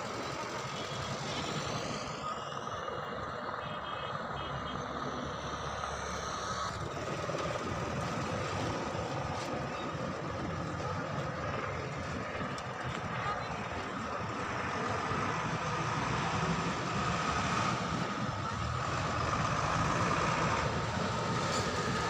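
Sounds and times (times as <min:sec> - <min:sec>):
engine with constant whine: 0:00.0 - 0:22.0.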